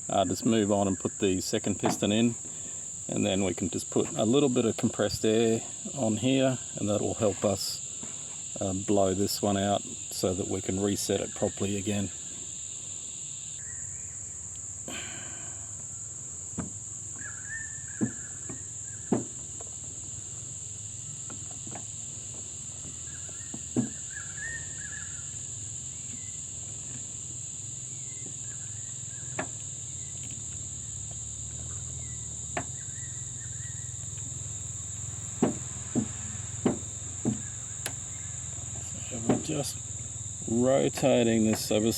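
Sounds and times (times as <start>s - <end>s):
insect chirring: 0.0s - 41.9s.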